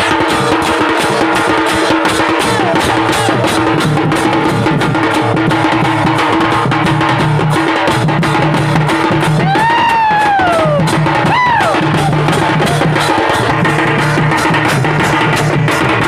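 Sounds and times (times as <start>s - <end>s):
barrel drum beaten with stick: 0.0s - 16.0s.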